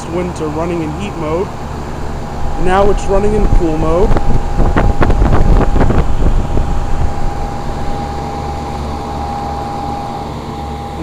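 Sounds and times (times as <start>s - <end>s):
constant whine: 0.0s - 11.0s
heat pump fan humming: 0.0s - 11.0s.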